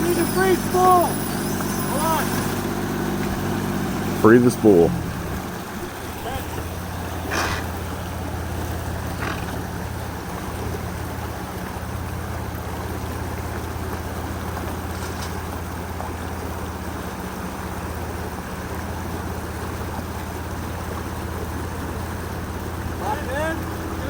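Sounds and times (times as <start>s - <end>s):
rushing water: 0.0s - 24.0s
vehicle engine running: 0.0s - 24.0s.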